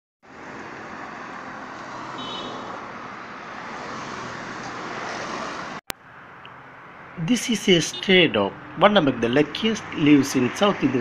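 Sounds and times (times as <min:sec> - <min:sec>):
outdoor traffic noise: 0:00.2 - 0:11.0.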